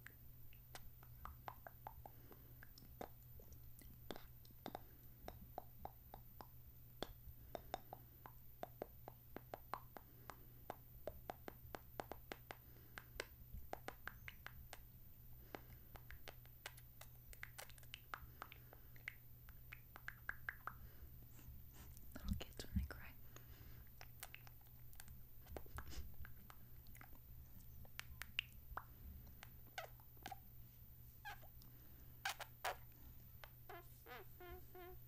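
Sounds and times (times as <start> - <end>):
wet lip smacks and kissing: 0.0 - 14.9, 15.5 - 20.8, 24.0 - 30.4, 31.2 - 32.8, 33.4 - 34.9
faint low hum: 0.0 - 35.0.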